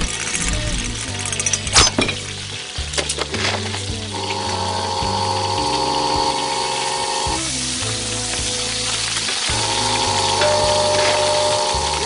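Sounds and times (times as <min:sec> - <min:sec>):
background music of held chords: 0:00.0 - 0:12.0
oil sizzling: 0:00.0 - 0:12.0.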